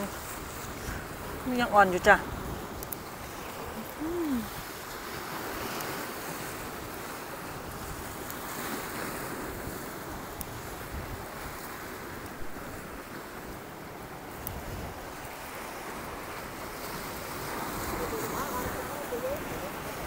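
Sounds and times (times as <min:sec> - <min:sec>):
sea surf on shore: 0:00.0 - 0:20.0
wind on microphone: 0:00.0 - 0:20.0.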